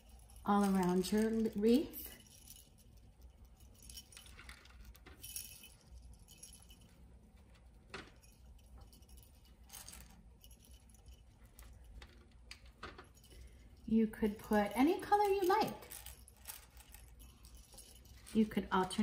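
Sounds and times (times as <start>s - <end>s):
small bells jingling: 0.0s - 7.3s, 8.1s - 12.0s, 13.0s - 19.0s.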